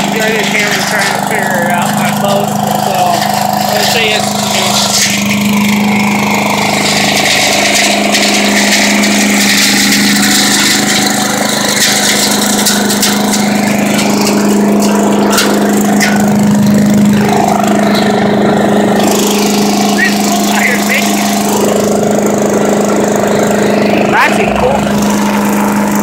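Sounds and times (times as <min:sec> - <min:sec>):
leaf vacuum engine droning: 0:00.0 - 0:26.0.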